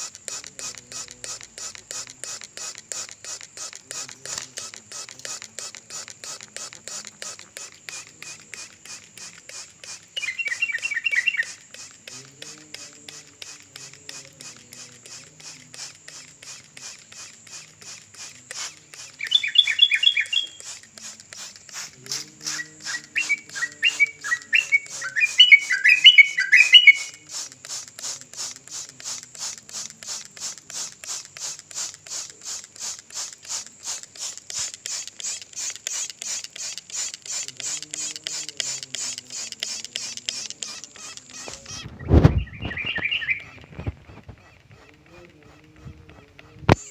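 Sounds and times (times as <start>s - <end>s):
bulbul quick chirping song: 0.0s - 46.9s
steady pulsing chirp: 0.0s - 46.9s.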